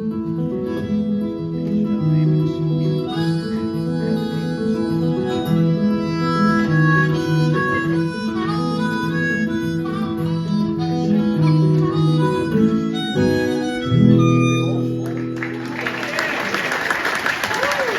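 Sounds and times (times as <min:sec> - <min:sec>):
harmonica: 0:00.0 - 0:15.4
guitar playing: 0:00.0 - 0:16.8.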